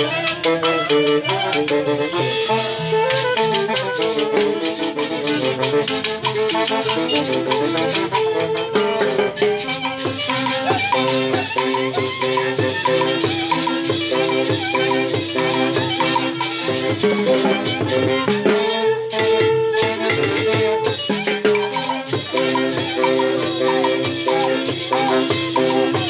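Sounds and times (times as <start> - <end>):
drums and cymbal: 0.0 - 26.0
rattling metal hand percussion: 0.0 - 26.0
saxophones and clarinet melody: 0.0 - 26.0.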